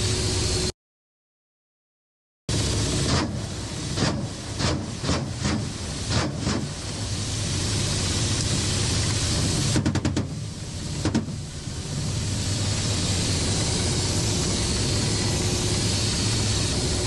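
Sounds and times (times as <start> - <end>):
helicopter engine and rotor drone: 0.0 - 0.7, 2.5 - 17.0
airflow hiss: 2.5 - 17.0.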